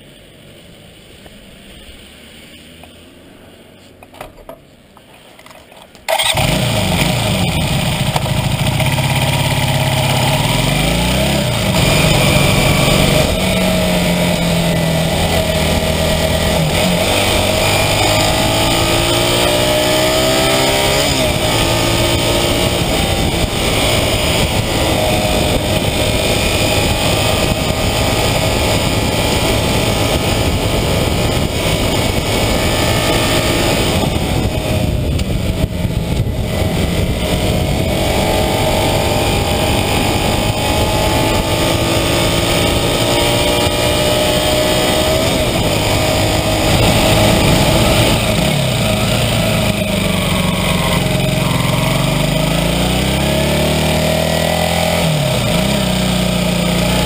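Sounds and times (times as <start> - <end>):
motorcycle engine revving: 6.1 - 57.0
wind rush on microphone: 6.4 - 57.0.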